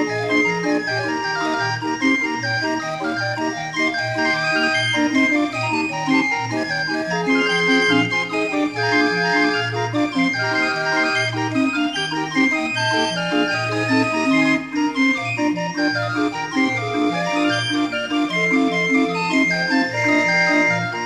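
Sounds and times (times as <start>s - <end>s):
barrel organ playing: 0.0s - 21.0s.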